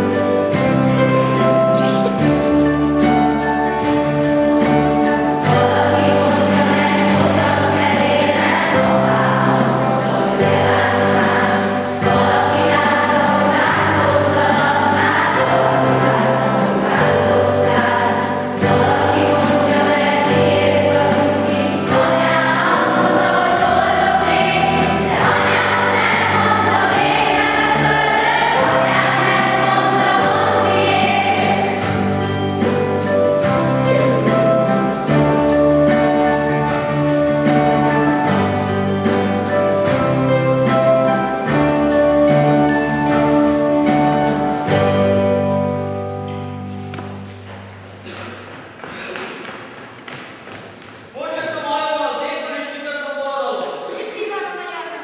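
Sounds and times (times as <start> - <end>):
children's choir singing: 0.0 - 48.3
instrumental accompaniment chords: 0.0 - 48.6.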